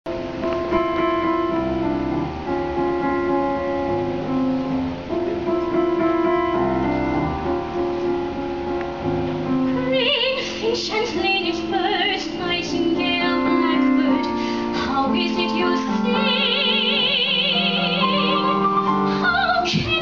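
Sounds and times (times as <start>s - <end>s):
piano playing: 0.0s - 20.0s.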